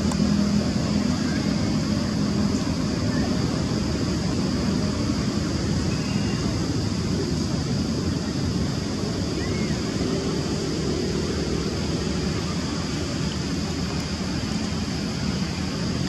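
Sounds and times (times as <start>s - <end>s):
constant high hiss: 0.0s - 16.0s.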